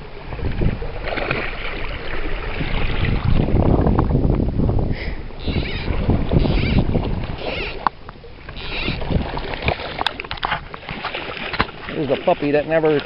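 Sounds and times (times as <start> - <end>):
water splashing from wading: 0.0 - 4.1, 5.4 - 13.0
wind rumbling on microphone: 0.0 - 13.0.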